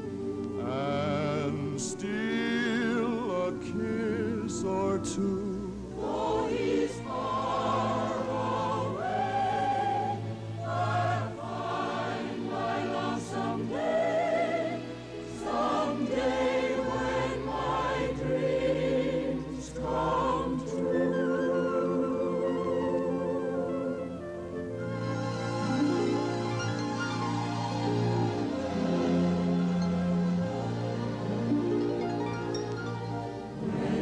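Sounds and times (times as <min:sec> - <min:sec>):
choir singing long notes: 0:00.0 - 0:34.0
orchestral music: 0:00.0 - 0:34.0.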